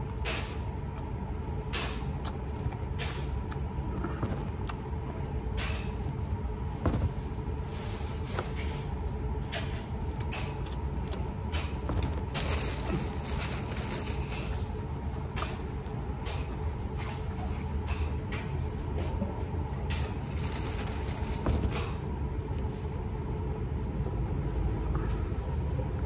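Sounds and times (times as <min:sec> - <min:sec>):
chewing and crunching: 0:00.0 - 0:06.7, 0:07.4 - 0:24.2
steady low hum: 0:00.0 - 0:26.0.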